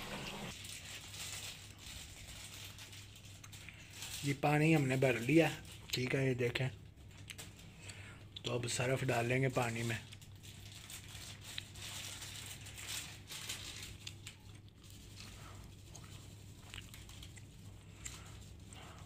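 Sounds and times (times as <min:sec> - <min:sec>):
plastic sachet crinkling and tearing: 0:00.5 - 0:19.0.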